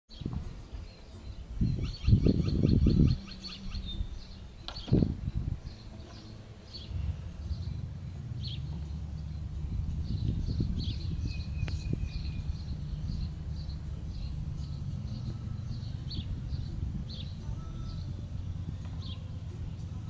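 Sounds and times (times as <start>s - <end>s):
low rumbling: 0.1s - 20.0s
small birds chirping: 0.1s - 20.0s.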